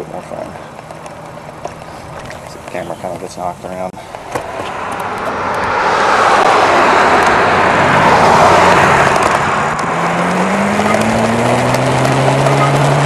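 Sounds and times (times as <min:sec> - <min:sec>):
hub motor whine: 0:00.0 - 0:13.0.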